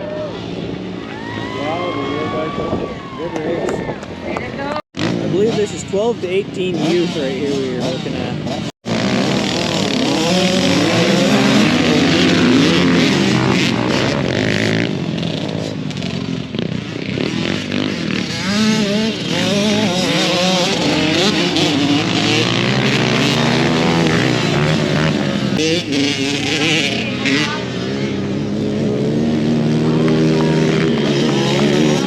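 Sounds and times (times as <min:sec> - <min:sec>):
atv engines racing: 0:00.0 - 0:32.0.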